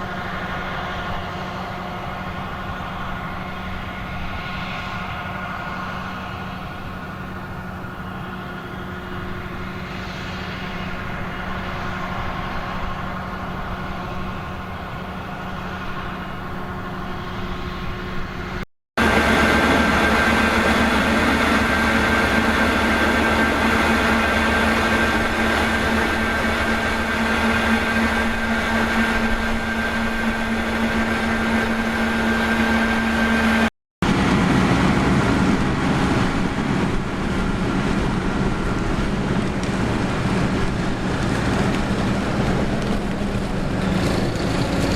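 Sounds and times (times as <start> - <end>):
harvest machinery engine drone: 0.0 - 44.9
machine whine: 0.0 - 44.9.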